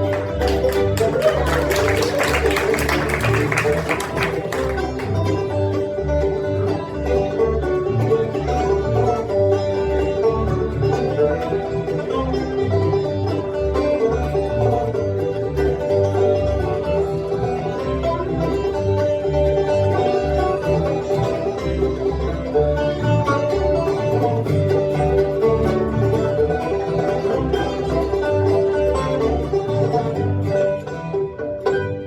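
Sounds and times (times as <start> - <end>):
banjo: 0.0 - 32.0
fiddle long notes: 0.0 - 32.0
guitar: 0.0 - 32.0
mandolin: 0.0 - 32.0.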